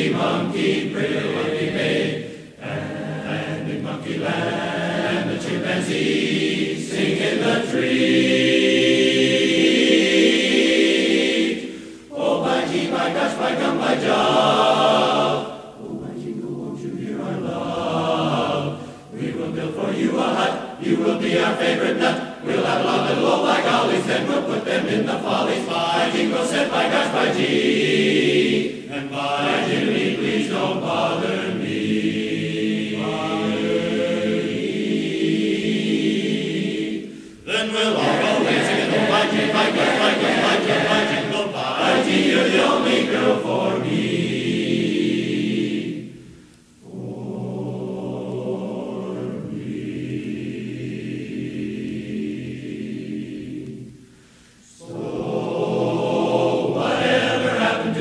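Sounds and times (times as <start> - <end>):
men's chorus singing a cappella: 0.0 - 54.0, 54.6 - 58.0.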